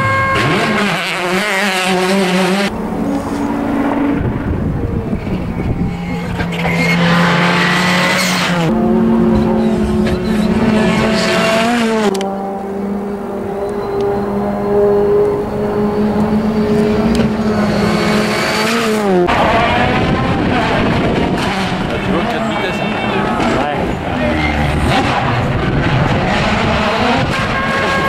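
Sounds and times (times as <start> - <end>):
rally car engines revving: 0.0 - 28.0
tyre and road noise: 0.0 - 28.0.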